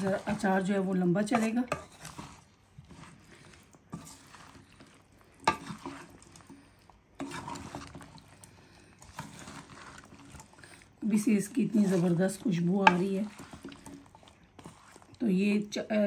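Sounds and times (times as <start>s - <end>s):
spoon scraping steel pan: 0.0s - 15.2s.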